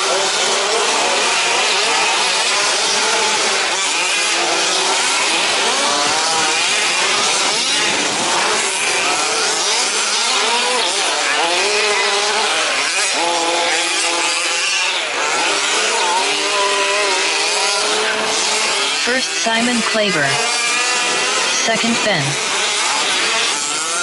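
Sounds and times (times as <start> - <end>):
small two-stroke engines revving: 0.0 - 19.4, 20.0 - 21.6, 22.3 - 24.0.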